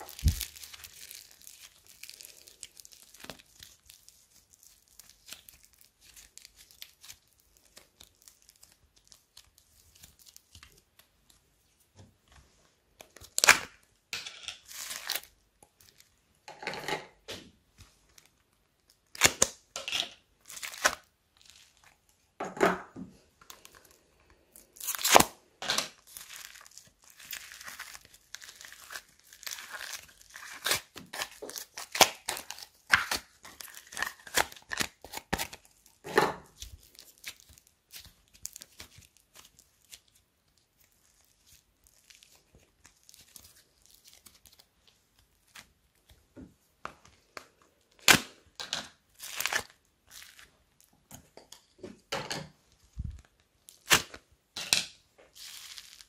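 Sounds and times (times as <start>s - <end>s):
slime crackling and crunching: 0.0s - 11.2s, 14.5s - 16.2s, 18.1s - 22.1s, 23.5s - 46.3s, 47.1s - 51.4s, 52.7s - 56.0s.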